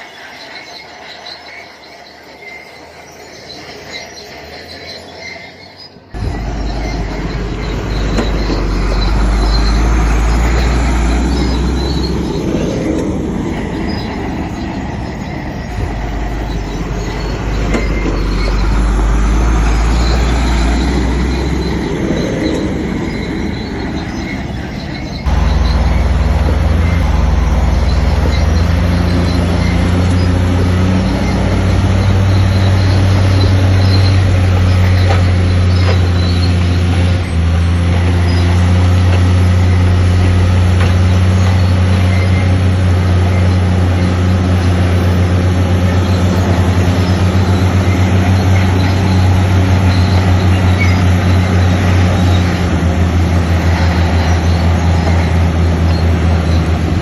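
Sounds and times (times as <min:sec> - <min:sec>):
bulldozer diesel engine under load: 0:00.0 - 0:57.0
steel tracks grinding and squealing: 0:00.0 - 0:57.0.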